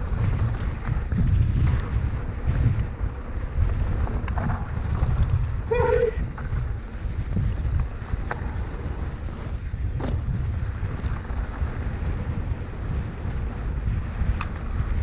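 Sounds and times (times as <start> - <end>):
low rumble of bike on dirt: 0.0 - 15.0
wind buffeting microphone: 0.0 - 15.0.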